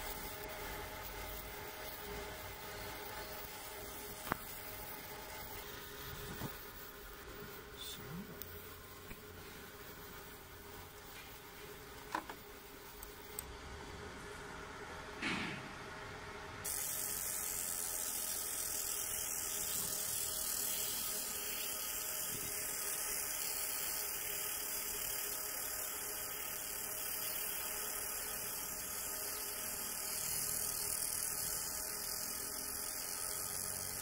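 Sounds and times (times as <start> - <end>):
laser marking machine hiss: 0.0 - 13.5, 16.6 - 34.0.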